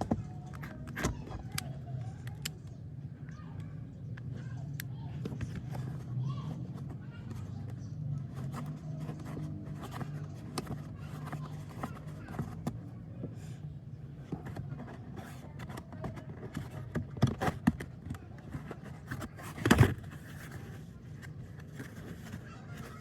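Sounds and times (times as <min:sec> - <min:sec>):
plastic clicks and scrapes: 0:00.0 - 0:02.8, 0:03.6 - 0:13.5, 0:14.1 - 0:23.0.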